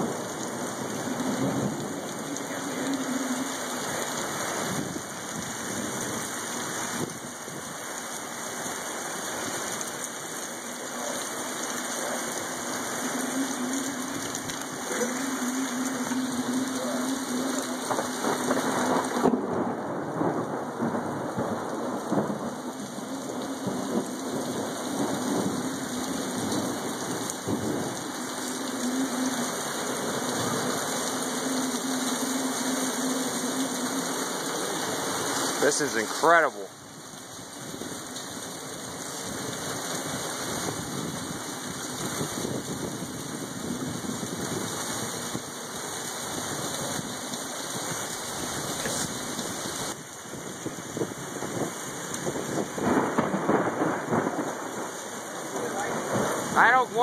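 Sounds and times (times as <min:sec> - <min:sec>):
strong gusting wind: 0:00.0 - 0:07.8, 0:12.3 - 0:35.7, 0:36.7 - 0:56.8
heavy rain: 0:00.0 - 0:57.0.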